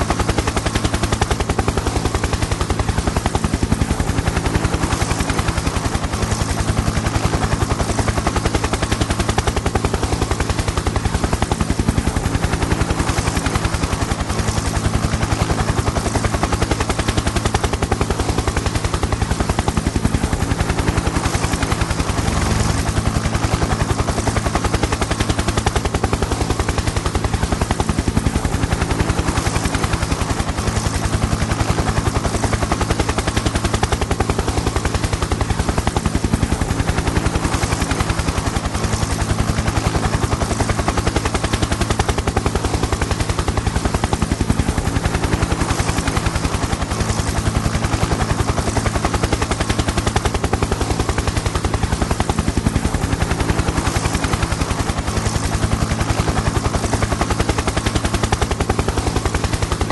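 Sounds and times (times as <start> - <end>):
engine and turbine hum: 0.0 - 59.9
helicopter rotor chopping: 0.0 - 59.9.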